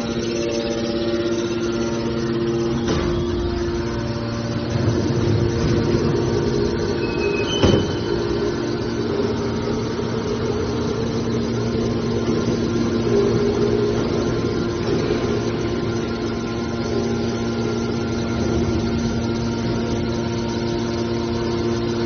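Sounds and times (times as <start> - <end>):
hydraulic power unit humming: 0.0 - 22.0.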